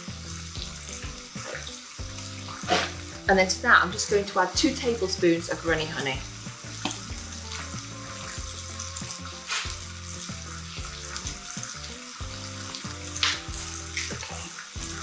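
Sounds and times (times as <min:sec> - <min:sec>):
peaches sizzling in a pan: 0:00.0 - 0:15.0
soft background music: 0:00.0 - 0:15.0.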